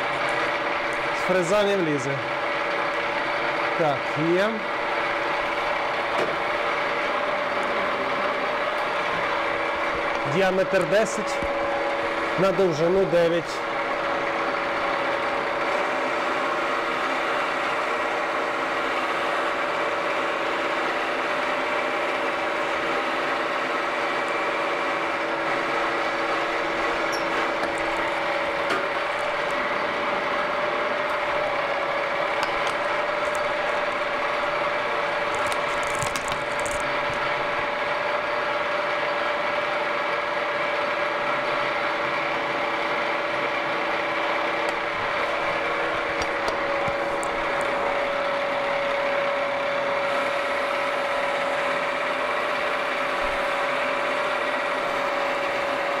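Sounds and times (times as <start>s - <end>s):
milling machine hum: 0.0s - 56.0s.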